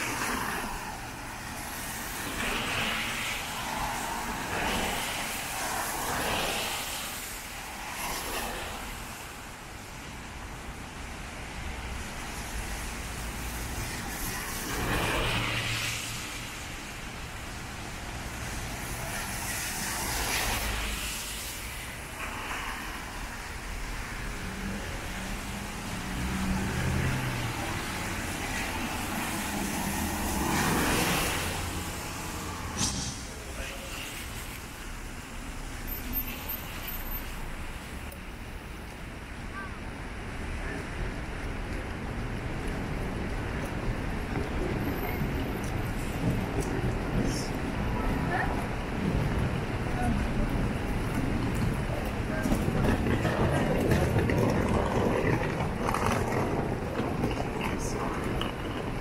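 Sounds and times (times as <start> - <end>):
heavy rain on street: 0.0 - 59.0
tyres passing on wet road: 0.0 - 59.0.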